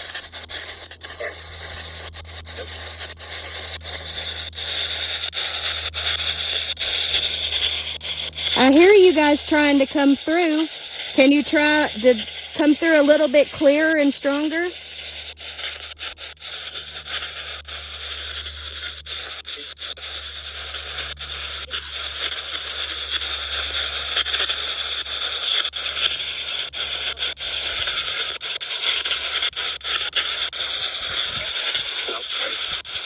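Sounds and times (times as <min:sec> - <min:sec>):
radio static hiss: 0:00.0 - 0:14.8, 0:15.5 - 0:17.4, 0:19.1 - 0:26.2, 0:26.8 - 0:33.0.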